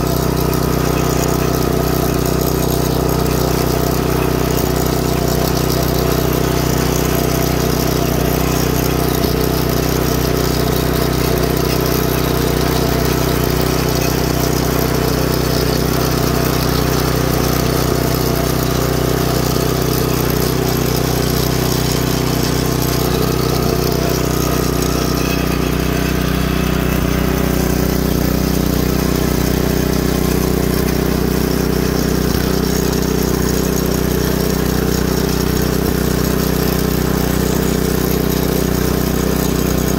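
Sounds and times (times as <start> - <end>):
rototiller engine running: 0.0 - 39.9
tines churning soil: 0.0 - 39.9.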